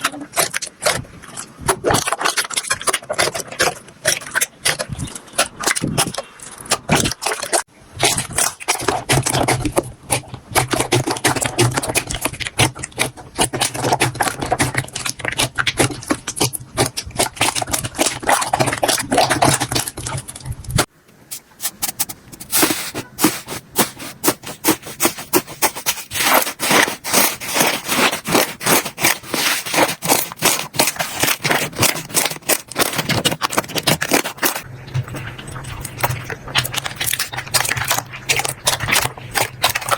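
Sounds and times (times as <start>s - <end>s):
slime squished crackling: 0.0s - 39.9s.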